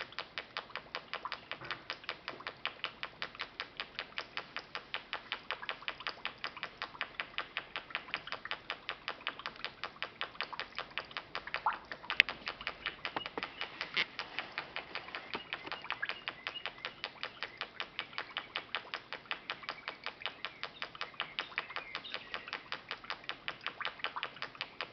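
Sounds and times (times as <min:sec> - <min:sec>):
bubbling water: 0:00.0 - 0:24.9
pop-pop boat motor ticking: 0:00.0 - 0:24.9.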